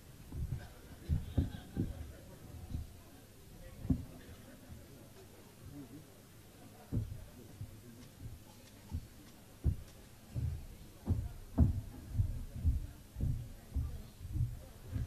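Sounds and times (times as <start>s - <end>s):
dull low thumps: 0.0s - 4.9s, 6.9s - 15.0s.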